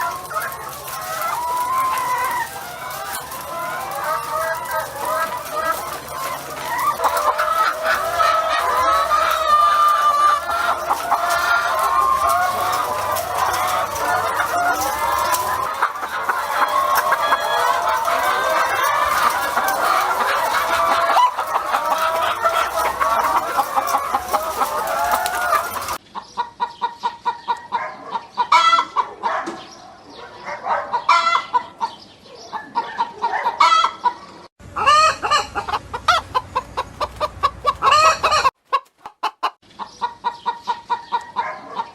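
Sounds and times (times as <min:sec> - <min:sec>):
chickens clucking: 0:00.0 - 0:41.9.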